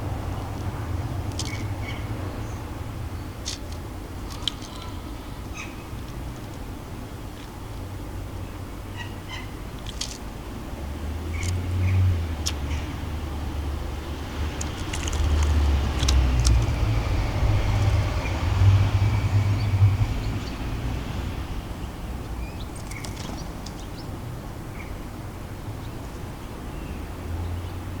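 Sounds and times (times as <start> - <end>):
birds chirping: 0.0 - 27.8
road traffic rumble: 0.0 - 28.0.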